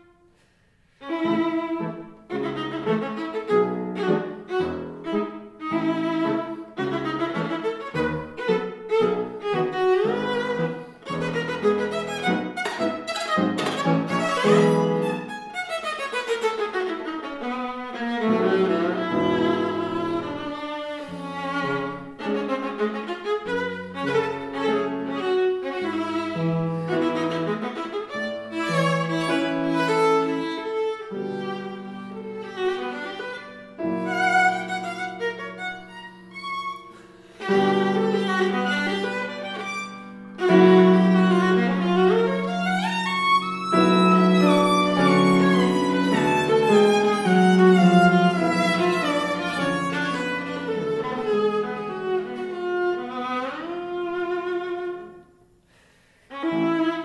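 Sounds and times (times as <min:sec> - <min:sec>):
piano accompaniment: 0:01.0 - 0:55.5, 0:56.3 - 0:57.0
bowed viola fast runs: 0:04.5 - 0:36.8, 0:37.4 - 0:52.9.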